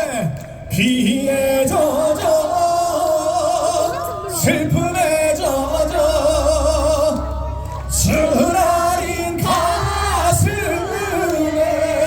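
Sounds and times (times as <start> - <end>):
man singing with vibrato: 0.0 - 12.0
audience singing along: 1.6 - 12.0.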